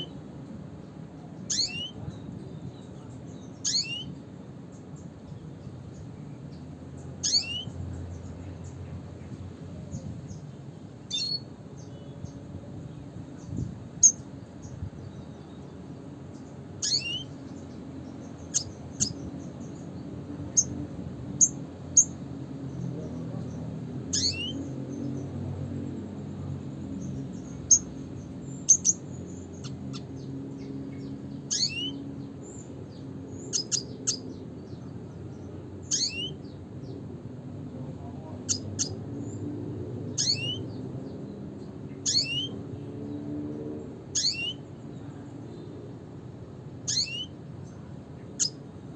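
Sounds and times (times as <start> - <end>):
bird chirping calls: 0.0 - 45.9, 46.8 - 48.9.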